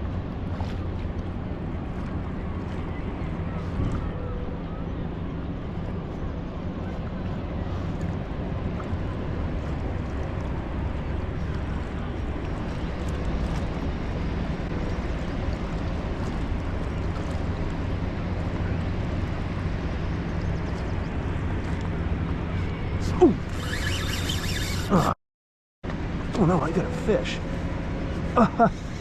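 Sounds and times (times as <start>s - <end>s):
boat motor running: 0.0s - 25.2s, 25.8s - 29.0s
water rushing: 0.0s - 25.2s, 26.0s - 29.0s.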